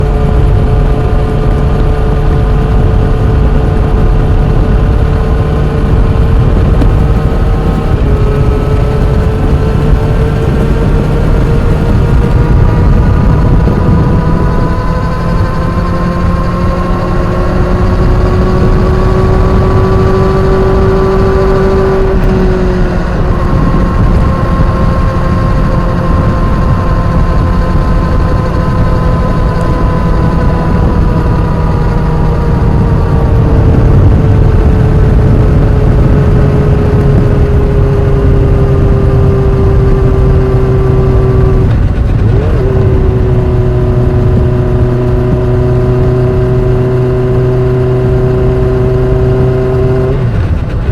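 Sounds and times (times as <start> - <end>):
loud low noise: 0.0 - 50.9
motorcycle drivetrain whine: 0.0 - 50.9.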